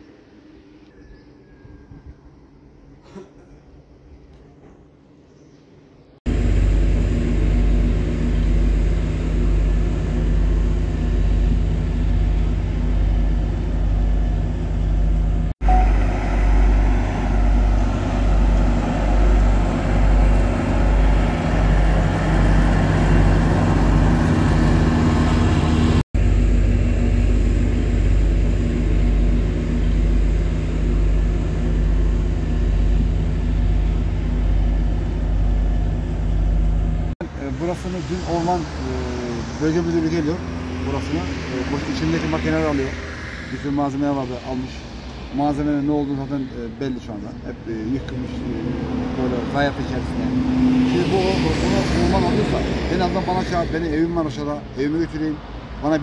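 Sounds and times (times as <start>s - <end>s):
diesel machinery pulsing rumble: 6.3s - 56.0s.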